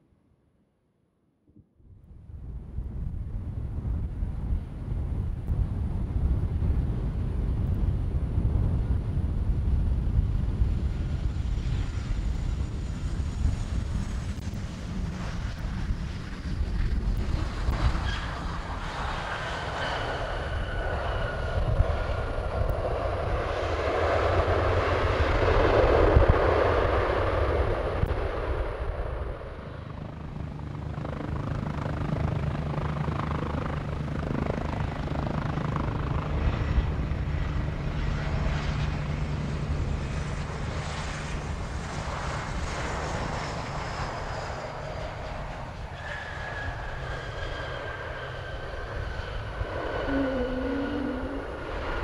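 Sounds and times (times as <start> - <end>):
jet airliner engines rumbling: 2.1 - 52.0
high engine whine: 2.7 - 52.0.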